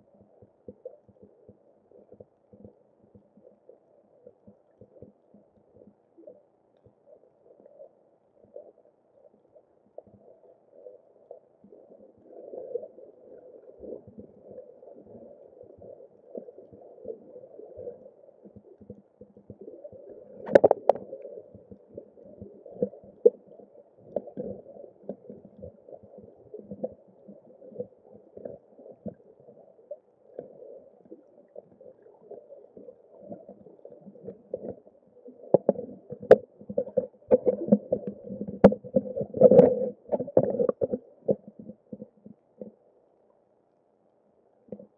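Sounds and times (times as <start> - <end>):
underwater crackling and gurgling: 0.0 - 42.9.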